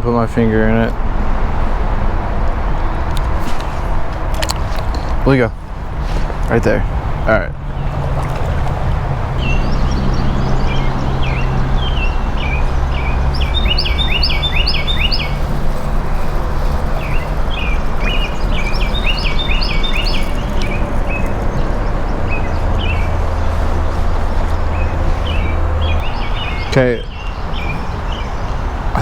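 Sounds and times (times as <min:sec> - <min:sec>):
songbird chirping: 0:02.8 - 0:29.0.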